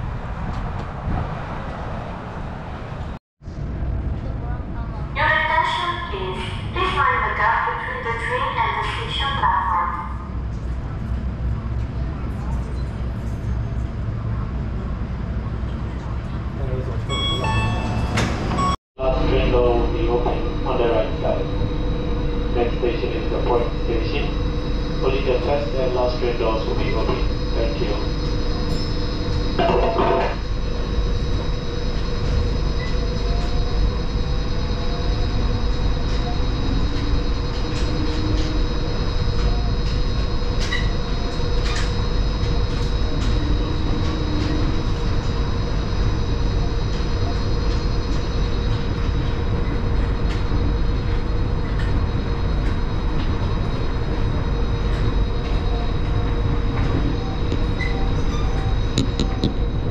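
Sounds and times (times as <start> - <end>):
monorail cabin rumble and hum: 0.0 - 59.9.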